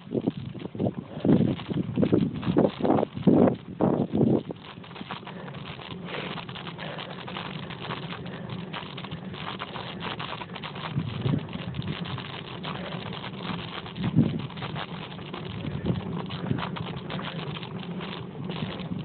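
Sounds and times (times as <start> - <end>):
bicycle ride rumble: 0.0 - 19.0
small clicks and crackles: 0.0 - 19.0.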